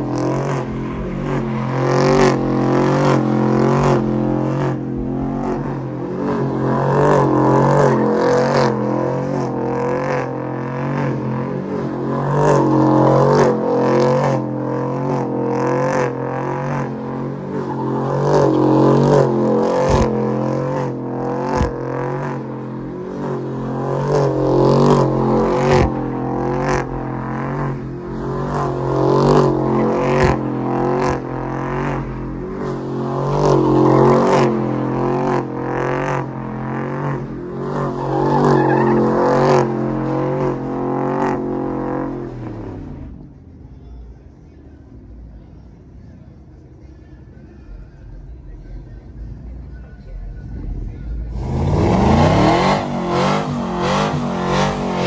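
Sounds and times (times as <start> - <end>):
tires squealing: 0.0 - 43.2, 51.3 - 55.0
truck engine at high revs: 0.0 - 43.2, 51.3 - 55.0.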